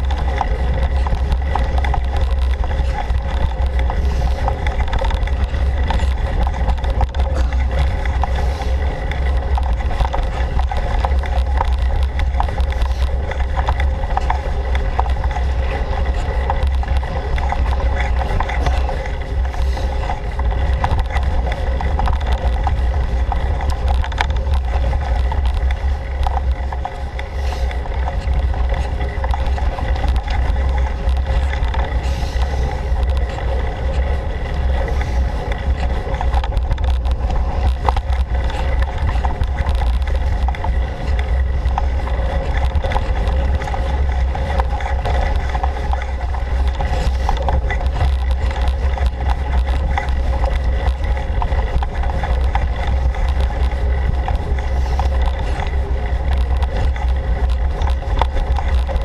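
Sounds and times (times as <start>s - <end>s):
bicycle tyres rumbling on dirt: 0.0s - 59.0s
rattles and clicks: 0.0s - 59.0s
wind buffeting camera: 0.0s - 59.0s.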